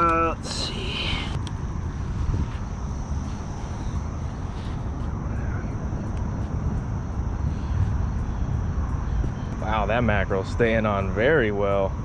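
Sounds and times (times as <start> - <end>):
jet aircraft rumble: 0.0 - 12.0.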